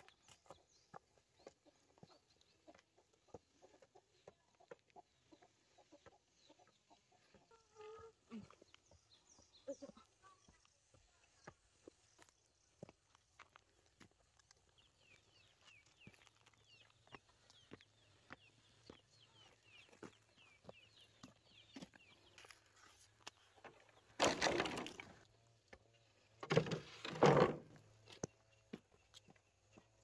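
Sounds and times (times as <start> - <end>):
small bird chirping: 0.0 - 24.2
footsteps on dirt path: 0.0 - 30.0.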